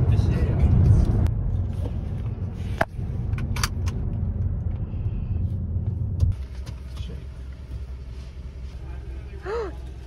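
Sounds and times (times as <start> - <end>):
car cabin rumble: 0.2 - 9.3.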